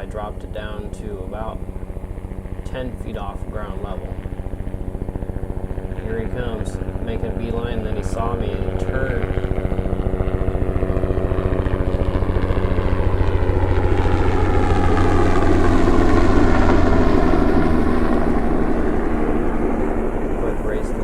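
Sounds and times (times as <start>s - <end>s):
helicopter rotor beating: 0.0s - 21.0s.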